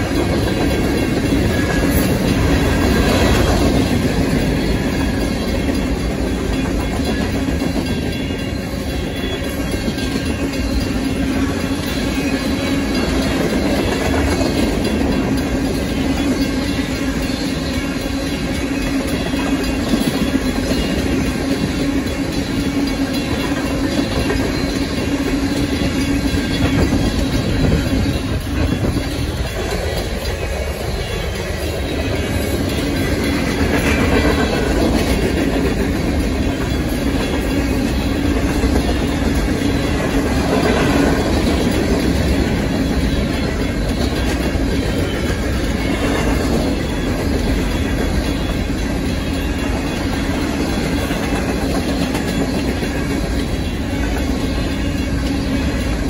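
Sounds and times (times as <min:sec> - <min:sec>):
train rumble: 0:00.0 - 0:56.0
train wheels clicking over rail joints: 0:00.0 - 0:56.0.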